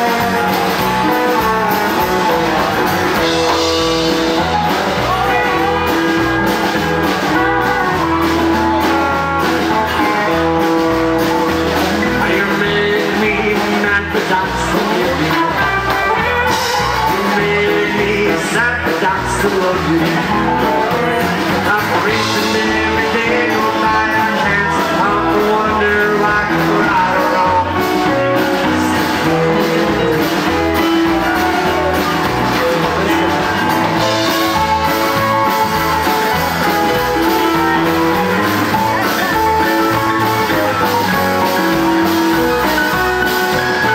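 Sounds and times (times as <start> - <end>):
live rockabilly band: 0.0 - 43.9.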